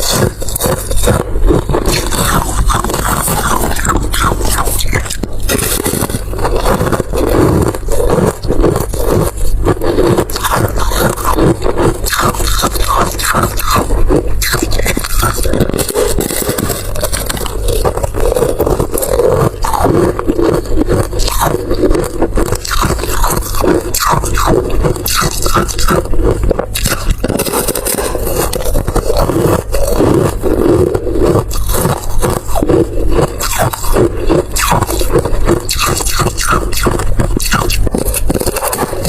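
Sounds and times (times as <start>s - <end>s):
chewing and crunching: 0.0s - 39.0s.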